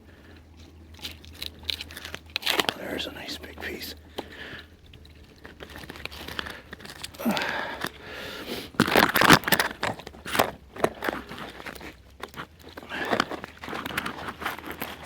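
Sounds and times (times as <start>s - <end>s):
twigs and bark snapping: 0.4s - 15.0s.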